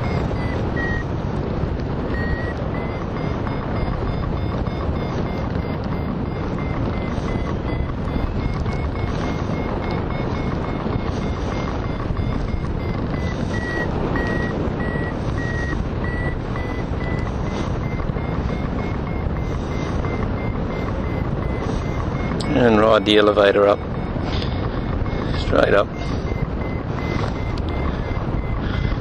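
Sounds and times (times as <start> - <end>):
variometer short high beeps: 0.0 - 1.1, 2.0 - 29.0
wind rush: 0.0 - 29.0.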